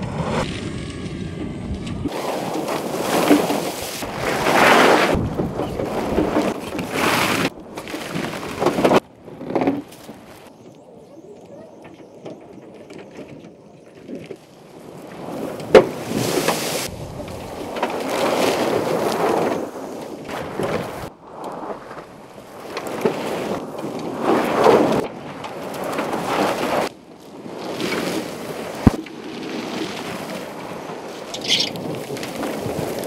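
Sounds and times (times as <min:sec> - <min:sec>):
tires churning dirt: 0:00.0 - 0:33.0
wind on microphone: 0:00.0 - 0:33.0.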